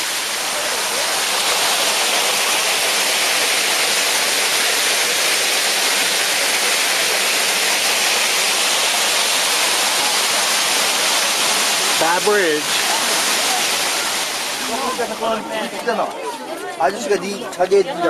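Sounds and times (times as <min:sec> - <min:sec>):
waterfall rushing: 0:00.0 - 0:16.1.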